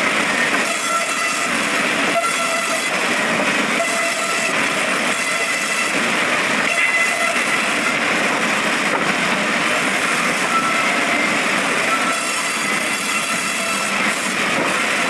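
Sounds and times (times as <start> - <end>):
band sawmill running: 0.0 - 15.0.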